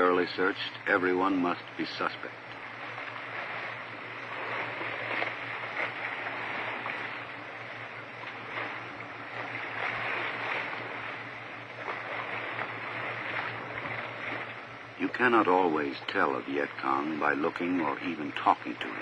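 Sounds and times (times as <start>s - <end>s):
low hum: 0.0s - 19.0s
steady rushing noise: 0.0s - 19.0s.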